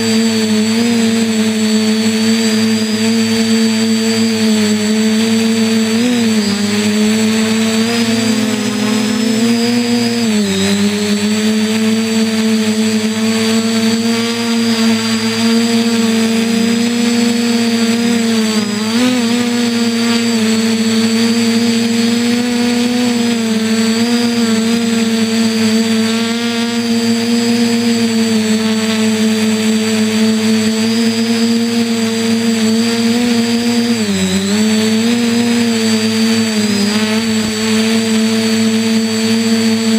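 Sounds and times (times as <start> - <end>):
quadcopter buzzing: 0.0 - 39.9.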